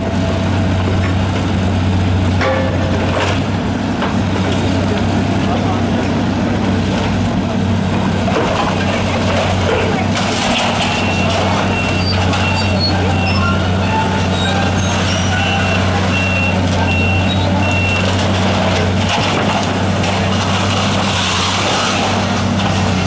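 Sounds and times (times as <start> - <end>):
diesel excavator engine running: 0.0 - 23.0.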